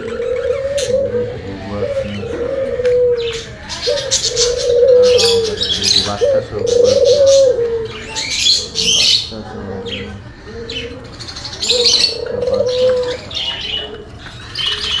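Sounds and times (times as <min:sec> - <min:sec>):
small parrots chattering: 0:00.0 - 0:15.0.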